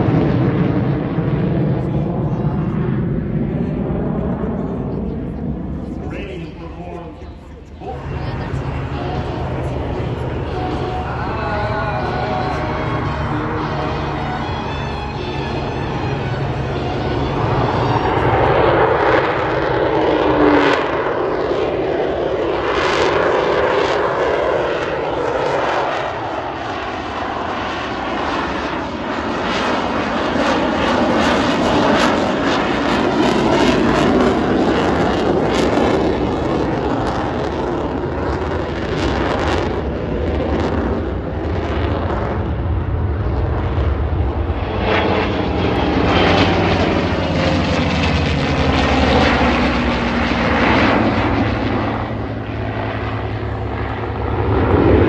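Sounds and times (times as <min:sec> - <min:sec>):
airplane engine passing overhead: 0:00.0 - 0:55.0.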